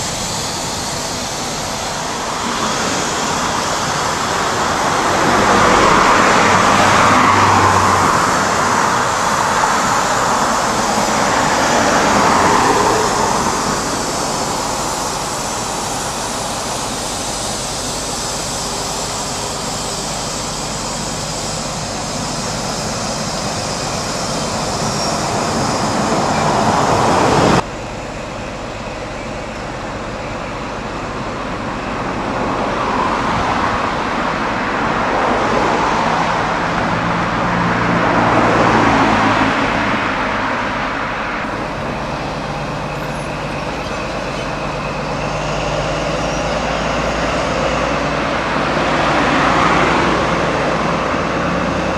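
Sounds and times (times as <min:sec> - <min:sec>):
train rushing past: 0:00.0 - 0:51.9.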